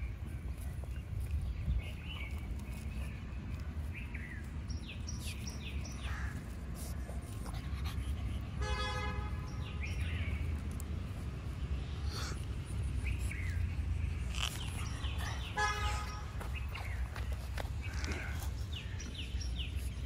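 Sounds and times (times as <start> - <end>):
paws scratching in dirt: 0.0 - 8.6, 9.5 - 20.0
birds chirping: 0.0 - 20.0.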